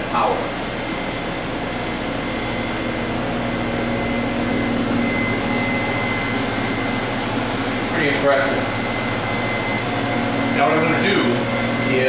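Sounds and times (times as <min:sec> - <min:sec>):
low hum: 0:00.0 - 0:12.0
machine whir: 0:00.0 - 0:12.0
thin high whine: 0:00.0 - 0:12.0.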